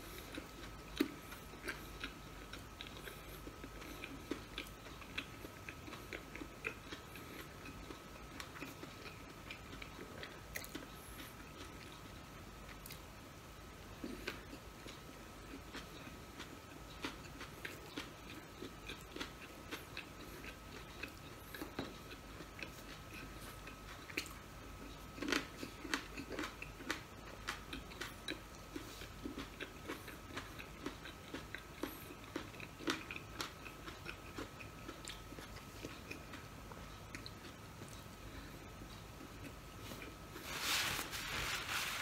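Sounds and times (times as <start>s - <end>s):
chewing crispy food: 0.0s - 42.0s.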